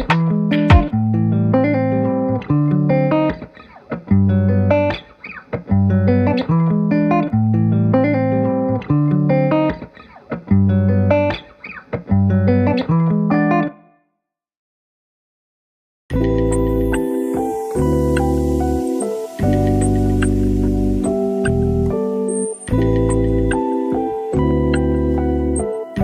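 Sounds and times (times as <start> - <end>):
plucked guitar with bass: 0.0 - 5.0, 5.6 - 9.8, 10.4 - 11.4, 12.0 - 13.8, 16.1 - 17.1, 17.8 - 26.0.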